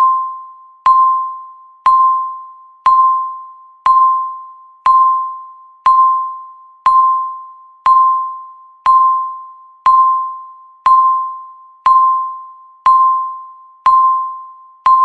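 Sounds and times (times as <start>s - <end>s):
bell-like electronic timer beeps: 0.0s - 15.0s.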